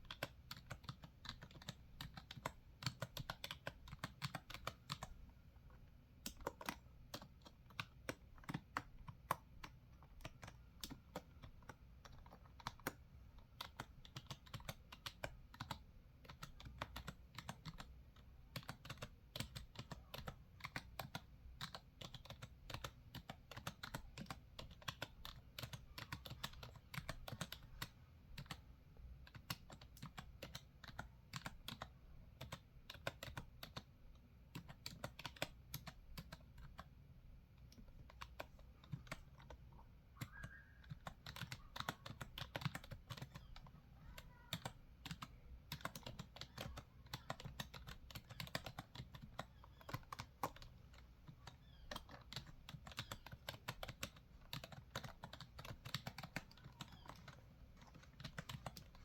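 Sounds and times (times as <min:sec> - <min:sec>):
computer keyboard typing: 0:00.0 - 0:05.2, 0:06.1 - 0:59.0.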